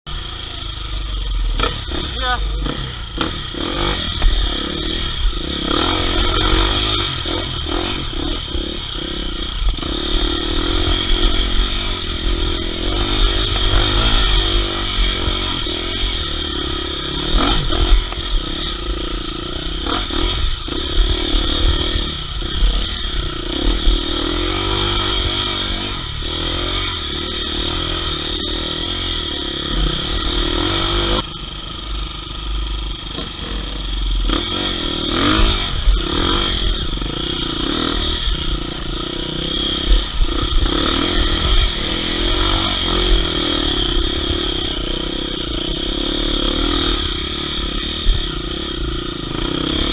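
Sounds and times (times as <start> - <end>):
dirt bike engine revving: 0.1 - 49.9.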